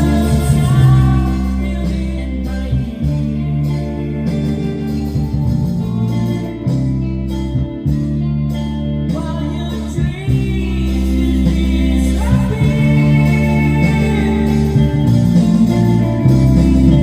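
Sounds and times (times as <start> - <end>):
person singing: 0.0 - 6.7, 9.1 - 17.0
bass line: 0.0 - 17.0
guitar: 0.0 - 17.0.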